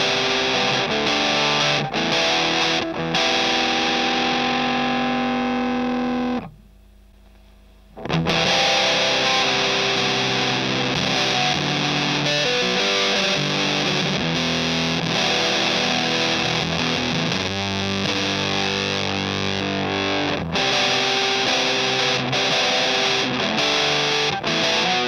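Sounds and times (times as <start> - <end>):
fuzz electric guitar chord: 0.0 - 6.6, 8.0 - 25.0
fuzzed guitar riffing: 0.0 - 6.6, 8.0 - 25.0.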